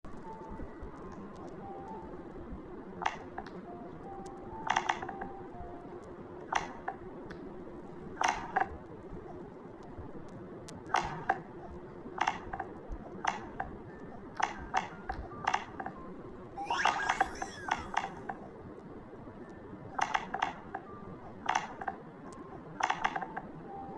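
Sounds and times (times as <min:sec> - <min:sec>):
low background hum: 0:00.1 - 0:23.9.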